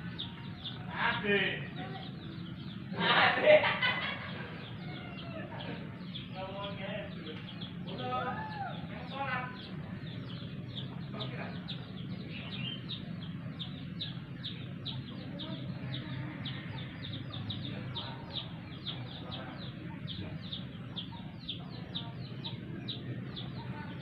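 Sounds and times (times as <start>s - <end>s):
bird chirping: 0.0s - 24.0s
steady low hum: 0.0s - 24.0s.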